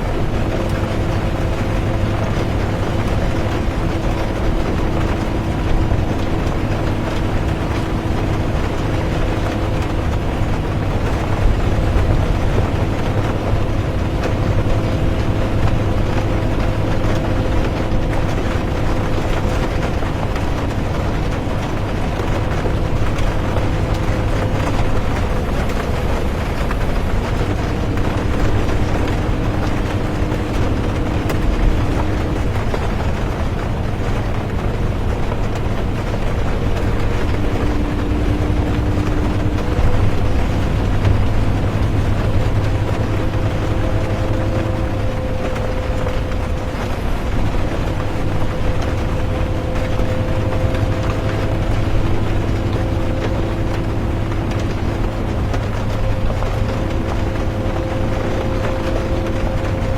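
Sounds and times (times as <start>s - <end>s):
bus engine and road rumble: 0.0s - 59.9s
drivetrain hum: 0.0s - 59.9s
rain hiss: 0.0s - 59.9s.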